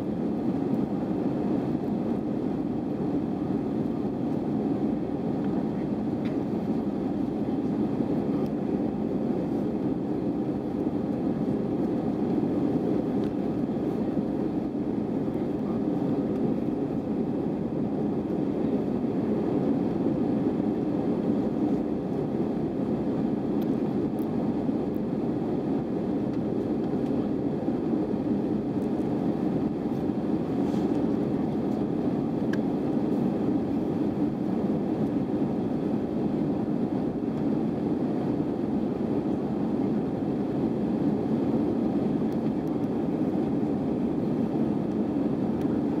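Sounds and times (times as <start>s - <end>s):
airplane cabin jet rumble: 0.0s - 46.0s.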